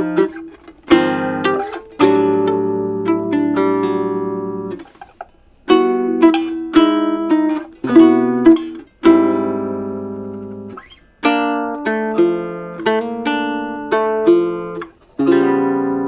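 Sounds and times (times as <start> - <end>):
acoustic guitar chords: 0.0 - 4.8, 5.7 - 16.0.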